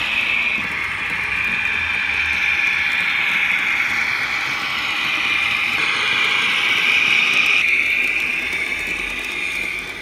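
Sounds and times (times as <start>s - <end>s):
model train diesel engine sound: 0.0s - 10.0s.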